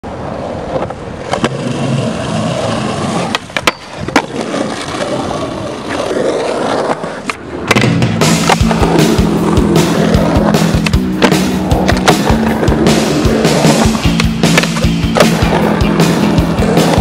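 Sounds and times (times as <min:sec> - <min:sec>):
skateboard wheels rolling on concrete: 0:00.0 - 0:17.0
skateboard trucks scraping ledge: 0:00.2 - 0:17.0
skateboard clacks: 0:00.4 - 0:17.0.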